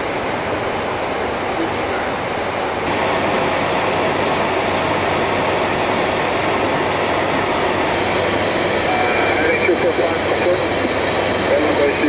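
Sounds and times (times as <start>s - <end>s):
rushing airflow noise: 0.0s - 12.0s.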